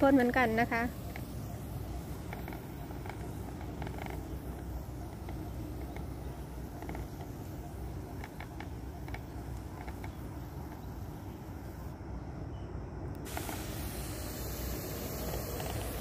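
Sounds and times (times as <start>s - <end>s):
sprayer hissing: 0.0s - 11.9s, 13.2s - 16.0s.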